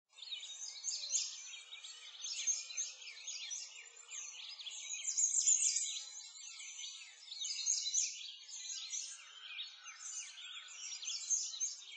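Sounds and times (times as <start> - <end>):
small birds chirping: 0.1 - 11.9.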